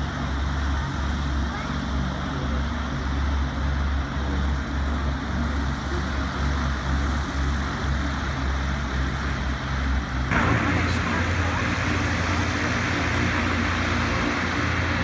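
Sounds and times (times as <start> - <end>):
airship propeller engines droning: 0.0 - 15.0.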